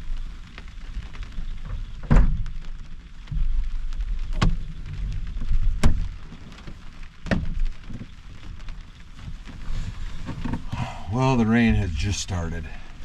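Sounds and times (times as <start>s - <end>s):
storm wind buffeting camper: 0.0s - 13.0s.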